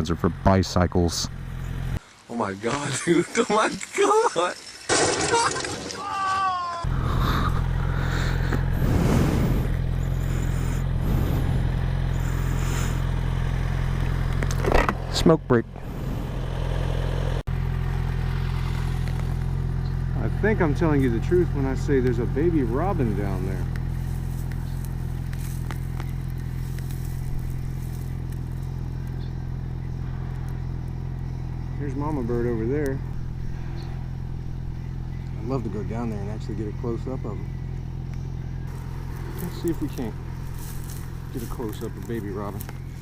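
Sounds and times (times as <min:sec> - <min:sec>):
engine idling: 0:00.0 - 0:02.0, 0:06.8 - 0:43.0.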